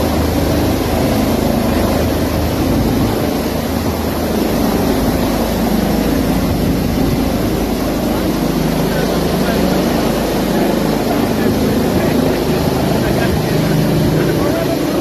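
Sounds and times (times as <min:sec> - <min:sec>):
engine drone: 0:00.0 - 0:15.0
low hum: 0:00.0 - 0:15.0.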